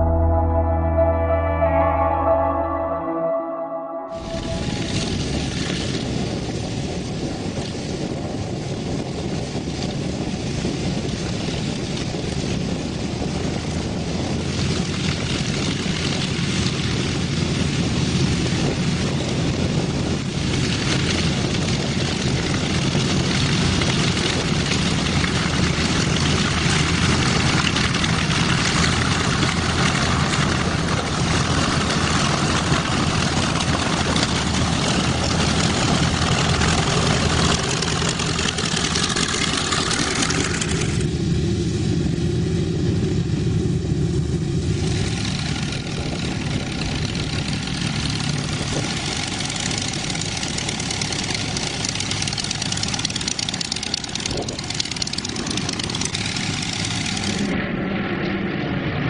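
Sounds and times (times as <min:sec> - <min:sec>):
radial aircraft engines running: 0:00.0 - 0:02.8, 0:04.2 - 0:59.0.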